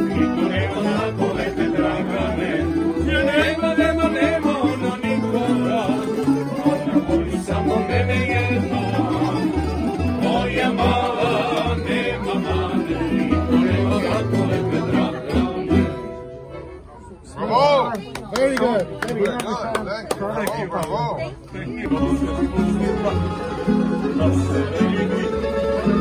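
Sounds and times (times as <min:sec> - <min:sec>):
plucked strings: 0:00.0 - 0:16.8, 0:21.8 - 0:26.0
double bass low notes: 0:00.0 - 0:17.2, 0:21.4 - 0:26.0
accordion: 0:00.0 - 0:17.8, 0:21.2 - 0:26.0.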